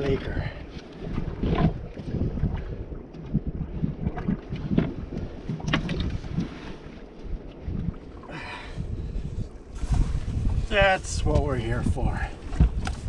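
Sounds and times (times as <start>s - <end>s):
water lapping against boat: 0.0s - 13.0s
wind buffeting microphone: 0.0s - 13.0s.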